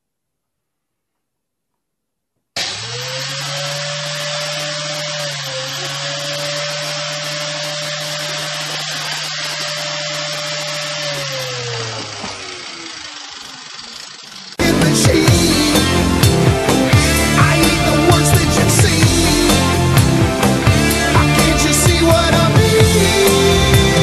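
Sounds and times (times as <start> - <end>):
electric motor whining: 2.6 - 24.0.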